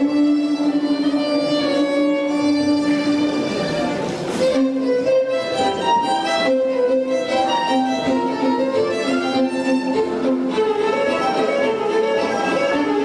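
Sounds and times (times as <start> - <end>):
two violins playing: 0.0 - 13.0.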